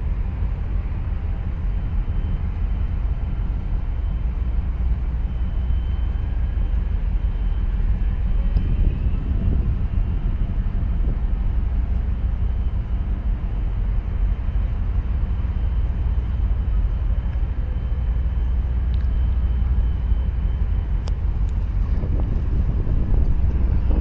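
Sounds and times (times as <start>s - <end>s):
ship low rumble: 0.0s - 24.0s.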